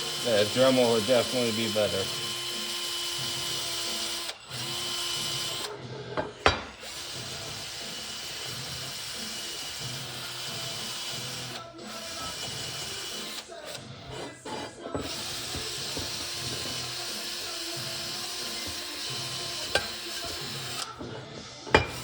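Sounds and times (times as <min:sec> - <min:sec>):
power tool motor whine: 0:00.0 - 0:05.8, 0:06.4 - 0:22.0.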